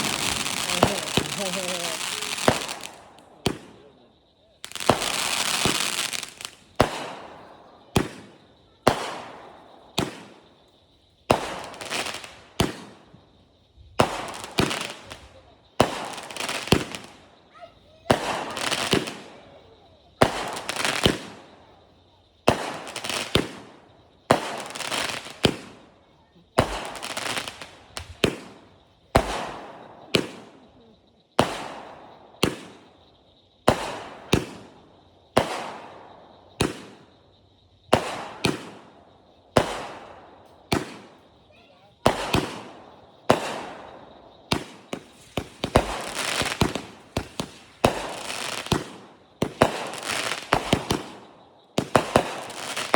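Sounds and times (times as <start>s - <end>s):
fireworks bangs with hiss: 0.0s - 52.9s.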